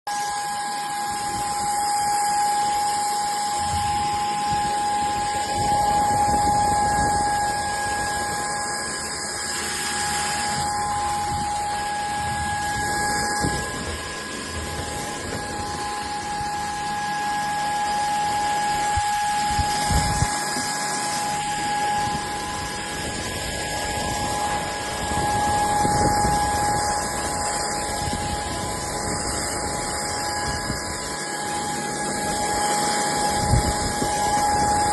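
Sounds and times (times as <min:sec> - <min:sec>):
stick vacuum cleaner running: 0:00.1 - 0:34.9.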